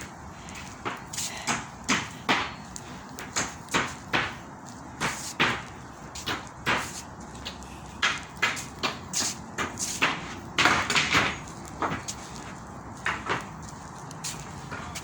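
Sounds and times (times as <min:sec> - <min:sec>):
footsteps crunching on a path: 0:00.0 - 0:15.0.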